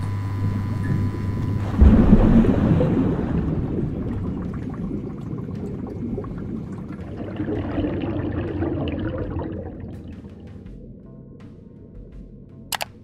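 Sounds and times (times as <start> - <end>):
water bubbling and gurgling: 0.4 - 11.0.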